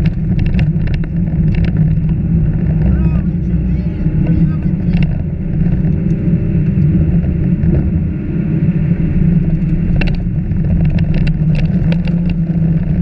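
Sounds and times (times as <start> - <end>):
car engine running: 0.0 - 13.0
tyres on gravel road: 0.0 - 13.0.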